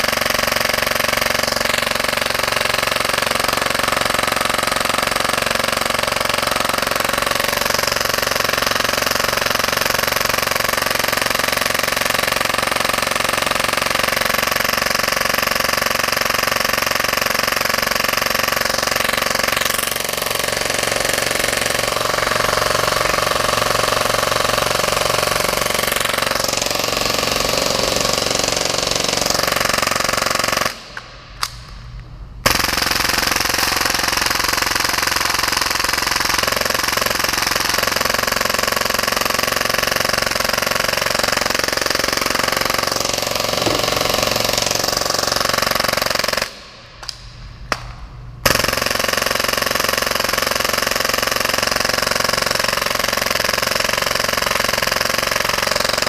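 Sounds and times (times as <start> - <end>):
airsoft pistol rapid firing: 0.0 - 56.0.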